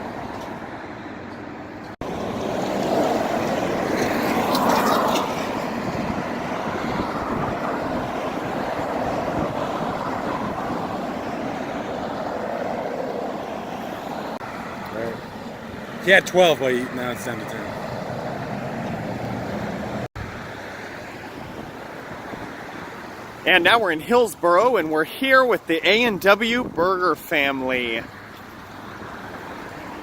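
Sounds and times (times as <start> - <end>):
roadside traffic noise: 0.0 - 30.0
vehicle passing: 0.0 - 30.0.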